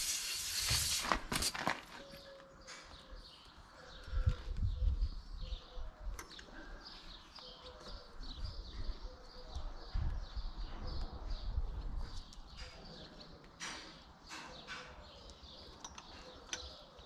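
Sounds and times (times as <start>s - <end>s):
small birds chirping: 2.0s - 17.0s.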